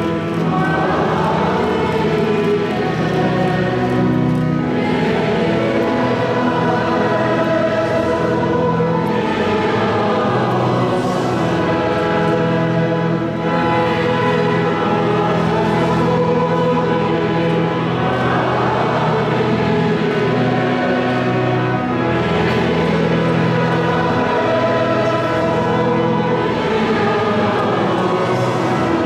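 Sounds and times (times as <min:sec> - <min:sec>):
choir singing sacred music: 0:00.0 - 0:29.0.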